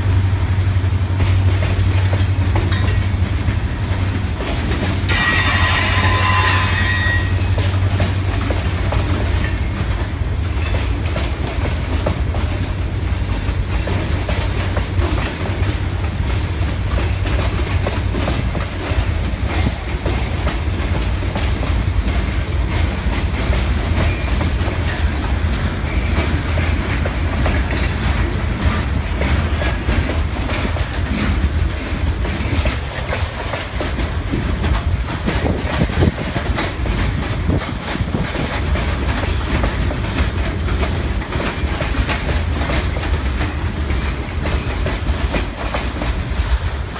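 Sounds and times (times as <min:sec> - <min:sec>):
train low rumble: 0:00.0 - 0:46.9
wheels clickety-clack on rails: 0:00.0 - 0:46.9.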